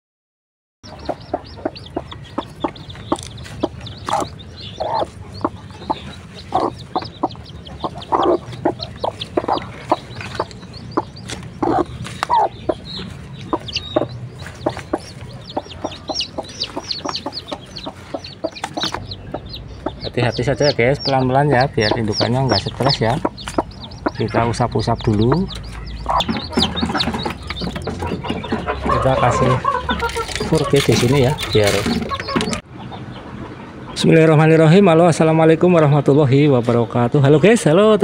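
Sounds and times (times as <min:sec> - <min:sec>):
hen clucking: 0:00.8 - 0:35.7
chicks peeping: 0:00.8 - 0:38.0.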